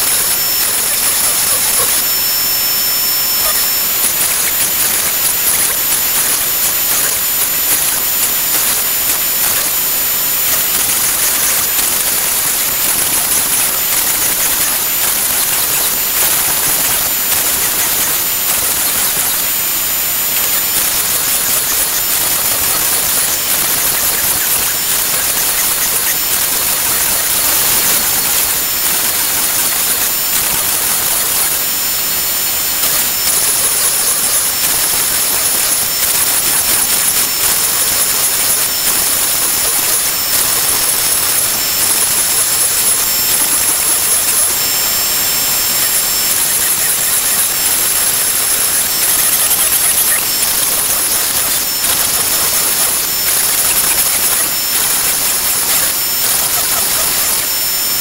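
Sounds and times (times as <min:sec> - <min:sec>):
router spindle high-pitched whine: 0:00.0 - 0:58.0.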